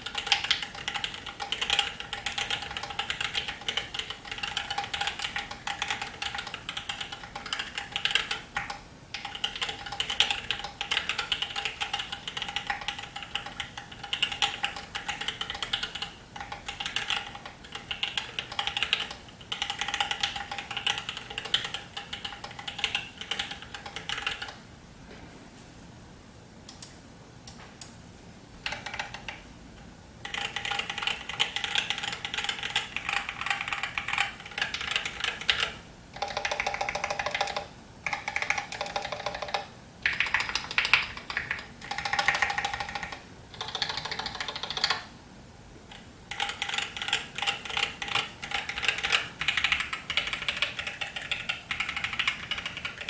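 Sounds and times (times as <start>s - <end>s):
mechanical keyboard typing: 0.0s - 24.6s, 28.6s - 29.4s, 30.2s - 45.1s, 45.9s - 53.0s.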